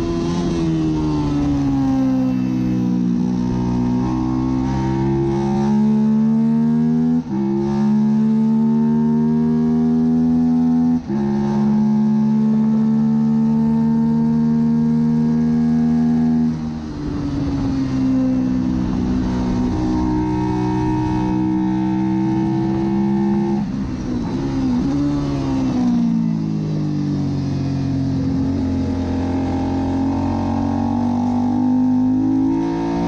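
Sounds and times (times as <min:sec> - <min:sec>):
motorcycle engine at racing speed: 0:00.0 - 0:33.0.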